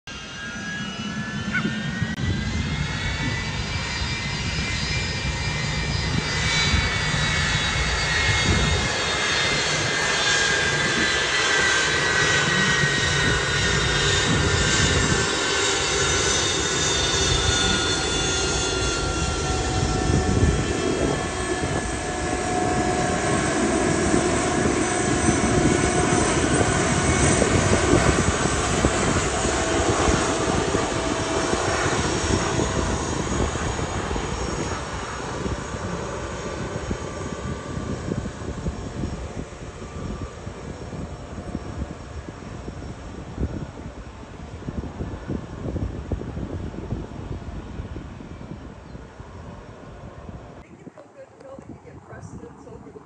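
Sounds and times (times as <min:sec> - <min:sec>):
jet engines whining: 0:00.1 - 0:53.0.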